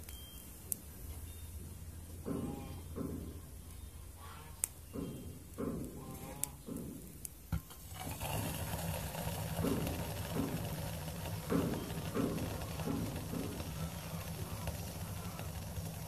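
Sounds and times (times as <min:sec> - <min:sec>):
stove hissing: 0:02.0 - 0:16.0.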